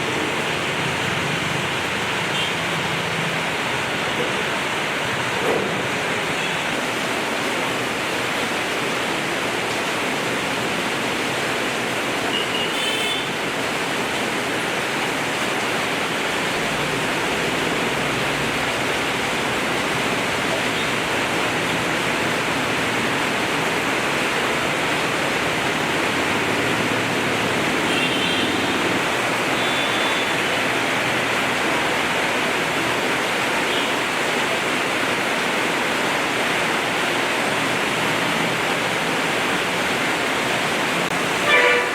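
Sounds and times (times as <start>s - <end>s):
torrential rain pouring: 0.0s - 41.9s.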